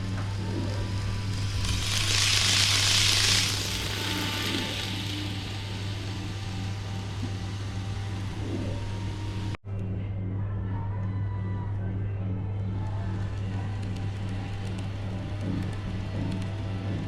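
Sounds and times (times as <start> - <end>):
model train running on track: 0.0 - 9.6, 12.8 - 17.0.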